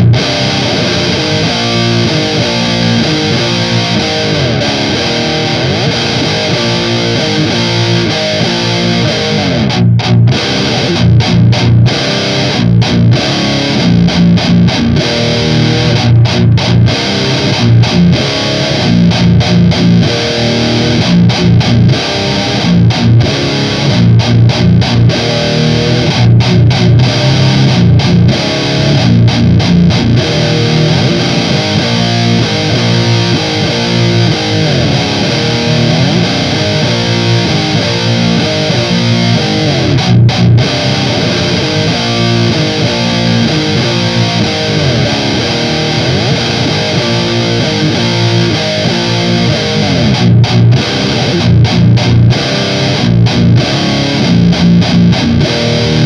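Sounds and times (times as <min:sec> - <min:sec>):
distorted electric guitar riff: 0:00.0 - 0:56.0.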